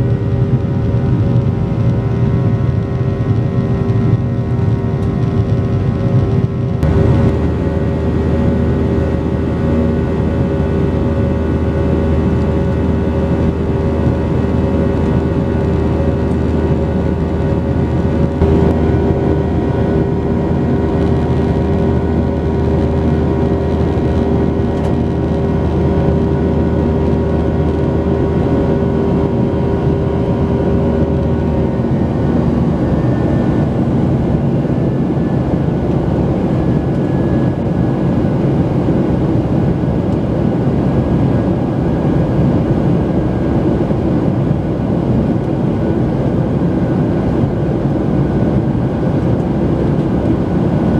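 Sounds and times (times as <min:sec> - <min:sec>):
jet engines humming in cabin: 0:00.0 - 0:50.9.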